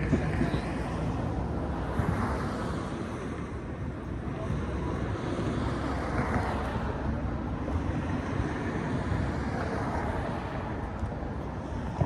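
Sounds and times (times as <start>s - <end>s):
steady outdoor rumble: 0.0s - 12.0s.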